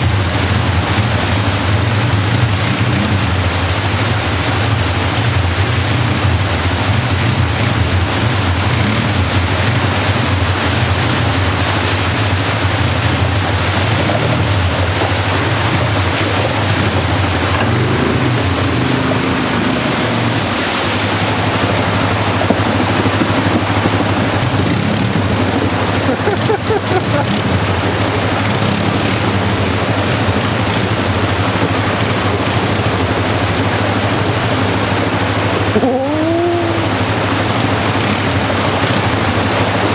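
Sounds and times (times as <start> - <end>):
creek water rushing over rocks: 0.0 - 39.9
quad bike engine running: 0.0 - 39.9.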